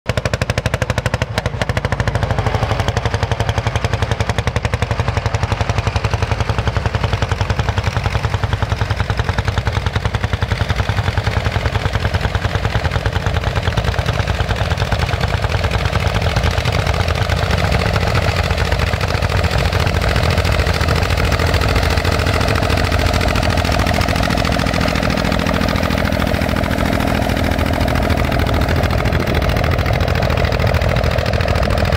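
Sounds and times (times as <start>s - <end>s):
tractor diesel engine knocking: 0.1s - 31.9s.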